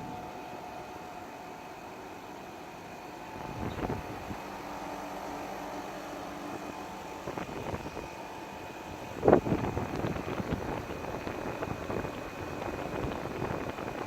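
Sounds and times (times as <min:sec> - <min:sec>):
air conditioner fan humming: 0:00.0 - 0:14.0.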